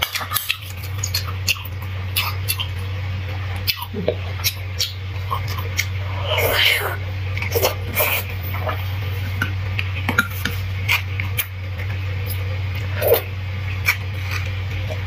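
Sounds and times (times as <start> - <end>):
person chewing wet mouth sounds: 0.0 - 15.0
steady low hum: 0.0 - 15.0.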